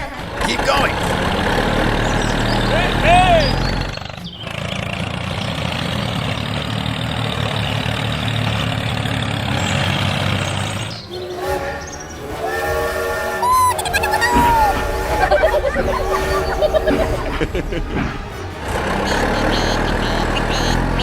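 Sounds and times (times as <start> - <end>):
vehicle-like motor noise: 0.0 - 21.0.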